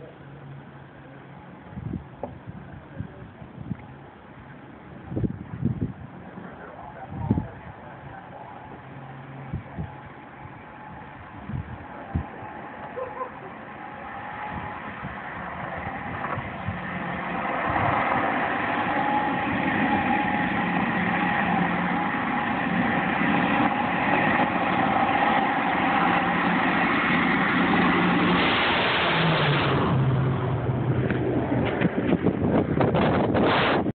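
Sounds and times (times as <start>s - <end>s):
turboprop aircraft engines humming: 0.0s - 33.9s
aircraft passing overhead rush: 4.0s - 33.9s.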